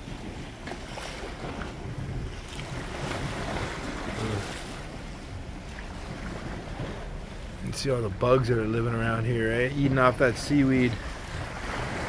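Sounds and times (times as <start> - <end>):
ocean waves washing against rocks: 0.0 - 12.0
wind buffeting microphone: 0.0 - 12.0.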